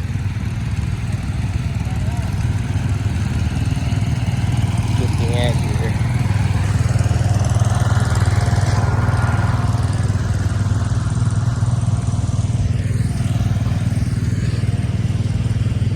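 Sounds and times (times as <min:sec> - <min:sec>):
loud engine running: 0:00.0 - 0:15.9.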